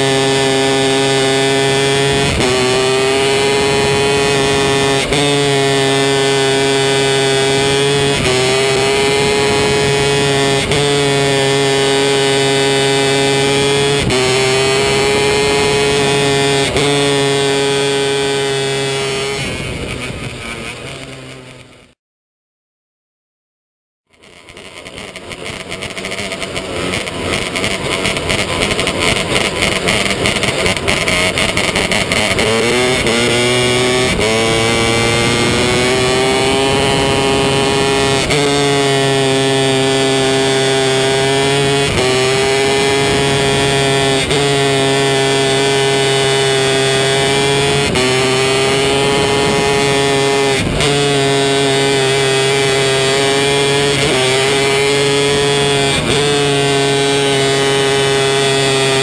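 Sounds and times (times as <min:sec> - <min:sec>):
motorcycle engine revving at high speed: 0:00.0 - 0:22.0, 0:24.1 - 0:59.0.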